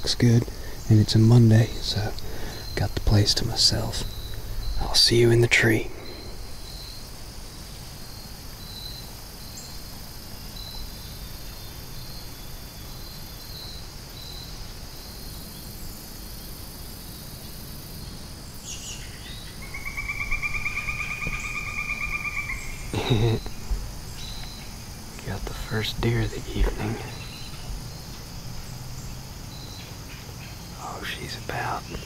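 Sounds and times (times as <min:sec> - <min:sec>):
insect high chirps: 0:00.0 - 0:32.0
rapid pulsing insect trill: 0:00.0 - 0:32.0
steady high hiss: 0:00.0 - 0:32.0.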